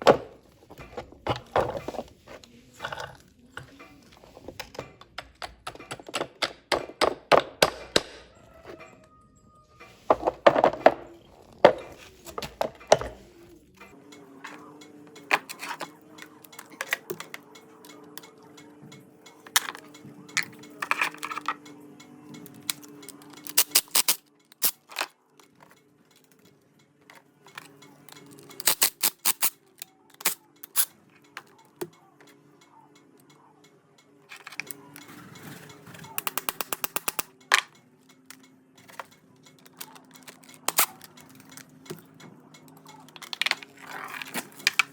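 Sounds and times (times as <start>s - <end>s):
hand tools clicking on metal: 0.0s - 9.1s, 13.8s - 32.4s, 34.3s - 44.9s.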